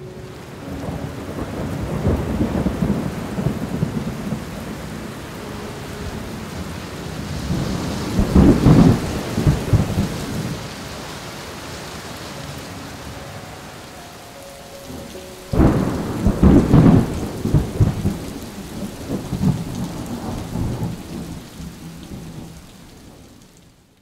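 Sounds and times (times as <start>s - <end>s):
thunder rumbling: 0.0s - 23.5s
heavy rain: 0.0s - 24.0s.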